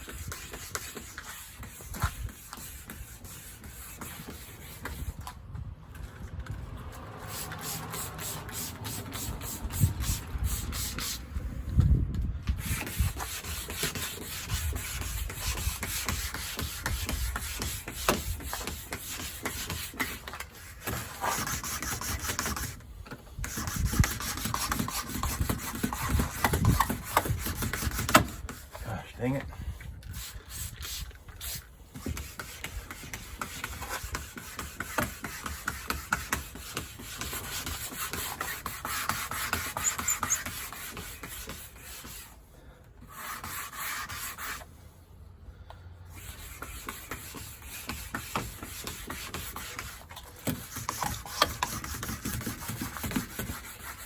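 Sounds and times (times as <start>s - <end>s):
gritty sandpaper rubbing: 0.0s - 5.4s, 7.0s - 11.8s, 12.6s - 42.4s, 43.1s - 44.8s, 46.1s - 54.0s.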